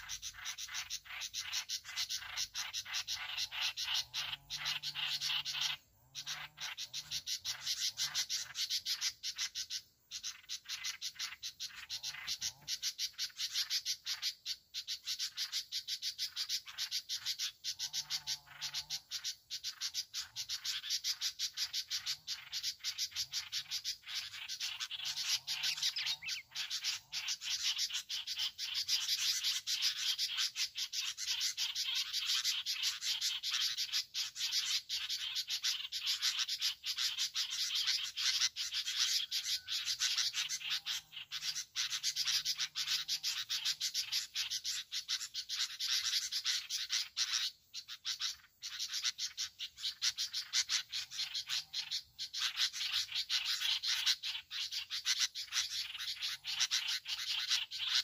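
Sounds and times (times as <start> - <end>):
chorus of rapid ticking calls: 0.0 - 58.0
faint bird calls: 0.0 - 58.0.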